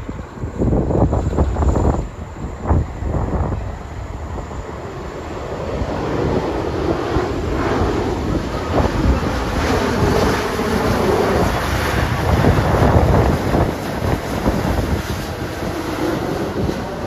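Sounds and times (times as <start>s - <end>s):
jet engines rushing: 0.0s - 17.0s
wind buffeting microphone: 0.0s - 17.0s.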